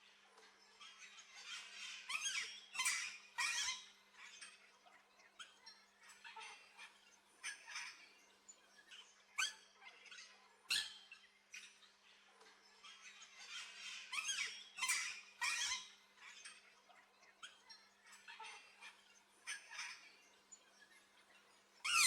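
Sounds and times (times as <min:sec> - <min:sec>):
birds chirping and squawking: 0:00.8 - 0:04.6, 0:05.4 - 0:21.1, 0:21.8 - 0:22.0.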